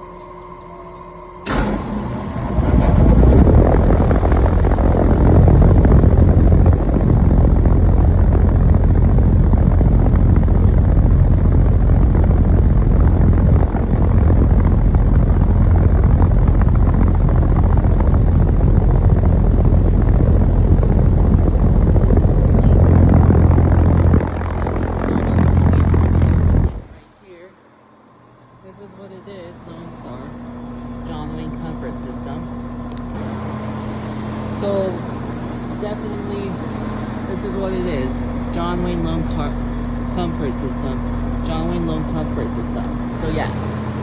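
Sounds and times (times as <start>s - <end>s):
air conditioner unit humming: 0.0s - 44.0s.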